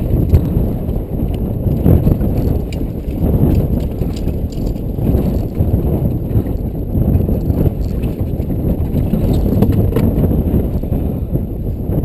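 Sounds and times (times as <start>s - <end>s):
waves thudding against hull: 0.0s - 11.2s
low rumble: 0.0s - 12.0s.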